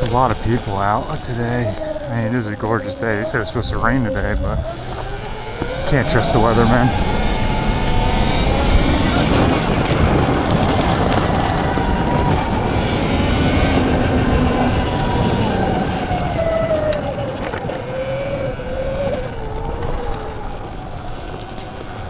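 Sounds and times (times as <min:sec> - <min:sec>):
electric motor whining: 0:00.0 - 0:22.0
steady rushing noise: 0:00.0 - 0:22.0.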